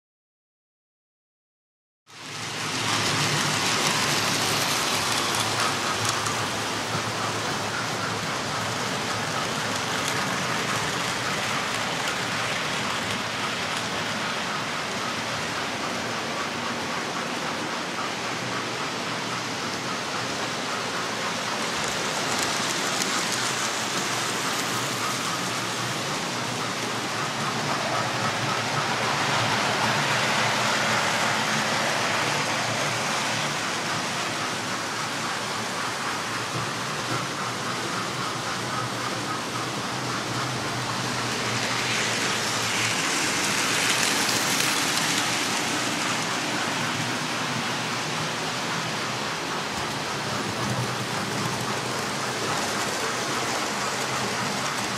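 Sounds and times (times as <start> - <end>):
model train wheels rumbling on track: 2.1 - 54.9.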